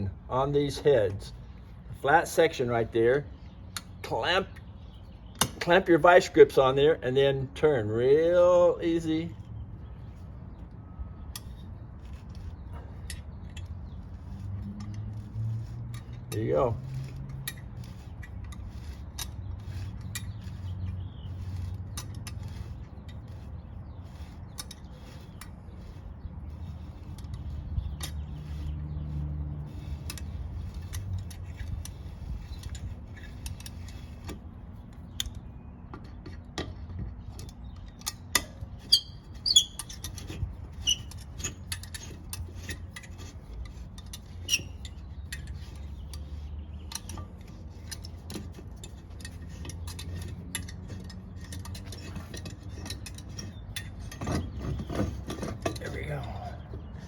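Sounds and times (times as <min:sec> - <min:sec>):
small metal clicks and ticks: 0:03.7 - 0:04.7, 0:11.3 - 0:57.0.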